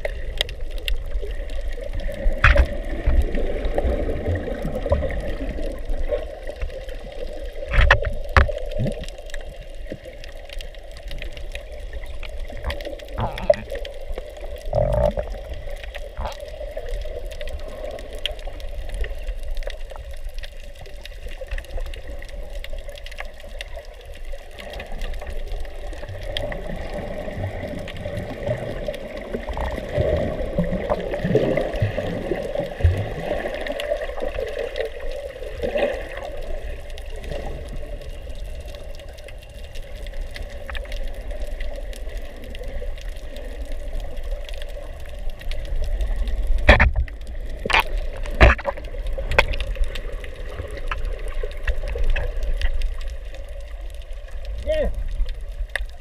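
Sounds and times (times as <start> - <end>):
low water sloshing and rumbling: 0.0 - 56.0
muffled underwater water noise: 0.0 - 56.0.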